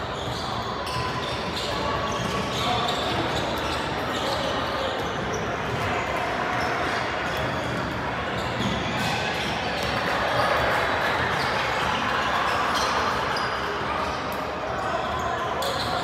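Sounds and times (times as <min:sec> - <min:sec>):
hubbub of voices: 0:00.0 - 0:16.0.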